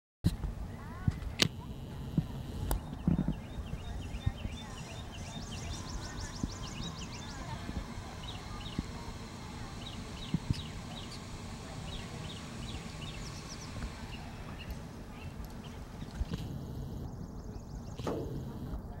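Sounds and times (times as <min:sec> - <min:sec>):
small birds chirping: 0:01.6 - 0:18.8.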